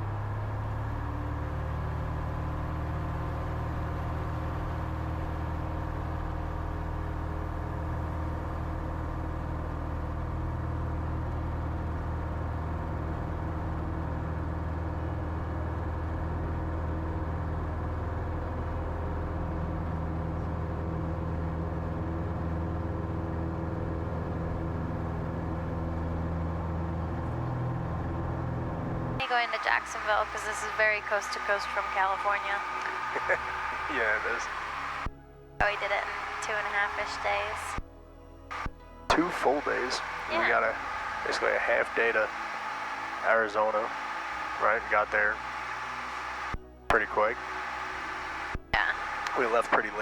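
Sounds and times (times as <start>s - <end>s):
propeller plane engine drone: 0.0s - 50.0s.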